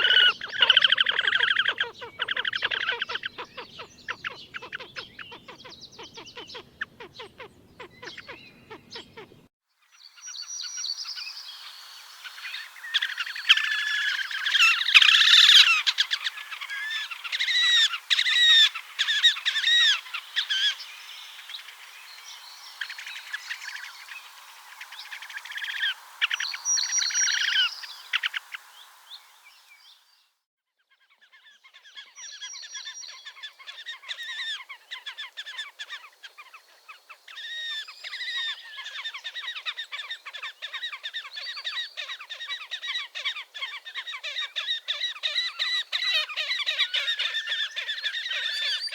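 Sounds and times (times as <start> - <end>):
grebes calling with trills: 0.0 - 9.3, 10.2 - 29.6, 31.3 - 48.9.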